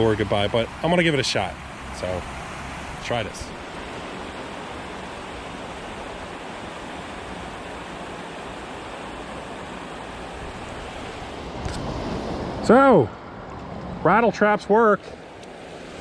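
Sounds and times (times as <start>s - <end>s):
water rushing over a dam: 0.0s - 13.1s.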